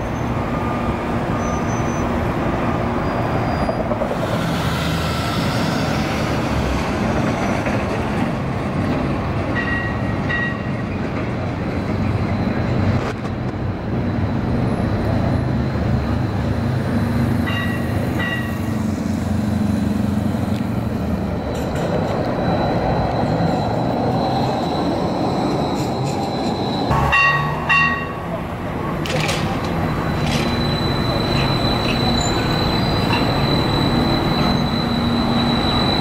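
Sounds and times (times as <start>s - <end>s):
city street noise: 0.0s - 36.0s
streetcar rumbling past: 0.0s - 36.0s.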